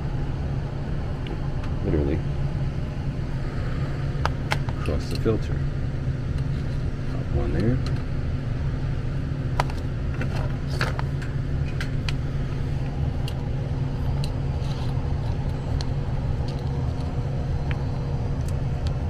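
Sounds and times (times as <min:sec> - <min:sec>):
blower motor humming: 0:00.0 - 0:19.0.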